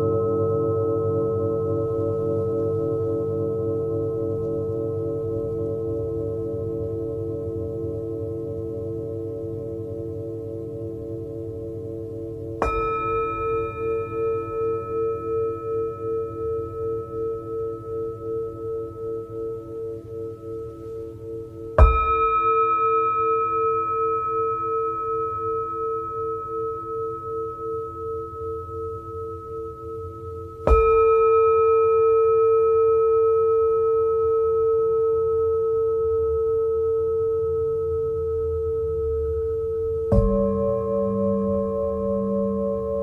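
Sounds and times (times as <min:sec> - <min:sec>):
singing bowl ringing: 0:00.0 - 0:43.0.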